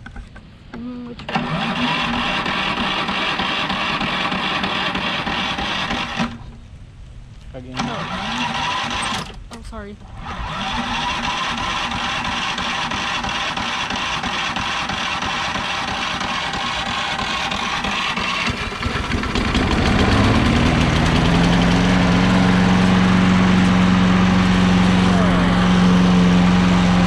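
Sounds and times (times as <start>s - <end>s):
electric starter cranking: 1.2s - 6.6s, 7.7s - 27.0s
lawn mower engine running: 1.2s - 6.6s, 7.8s - 27.0s.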